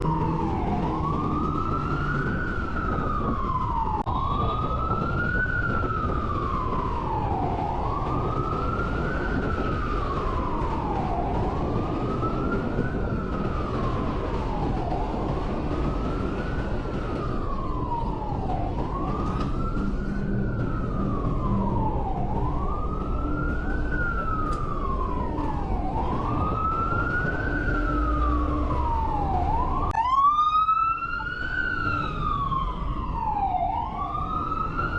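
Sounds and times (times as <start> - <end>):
emergency siren wailing: 0.0 - 34.9
street traffic rumble: 0.0 - 34.9.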